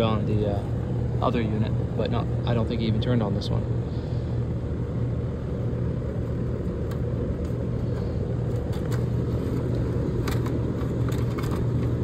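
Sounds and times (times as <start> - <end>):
compressor humming: 0.0 - 12.0
fan rumble: 0.0 - 12.0.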